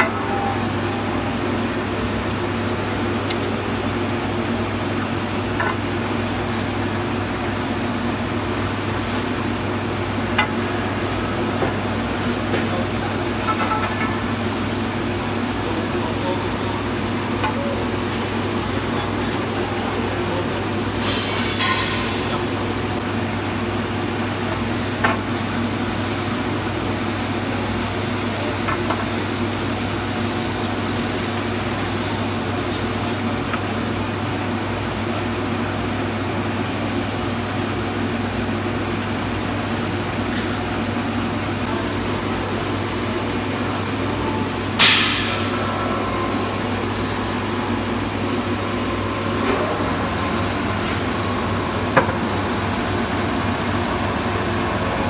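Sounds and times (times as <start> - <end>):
glass washing machine running: 0.0 - 55.0.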